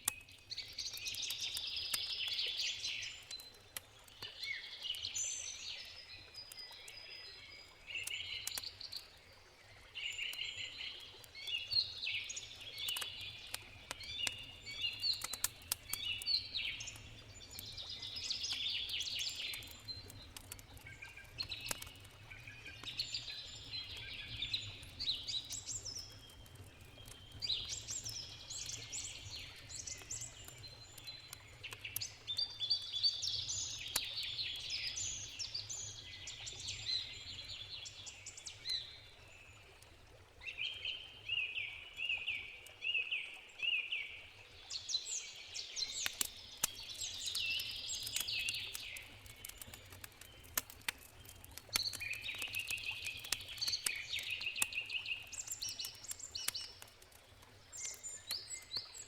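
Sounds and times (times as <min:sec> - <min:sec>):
campfire crackling: 0:00.0 - 0:40.8, 0:44.8 - 0:59.0
songbirds chirping: 0:00.0 - 0:59.0.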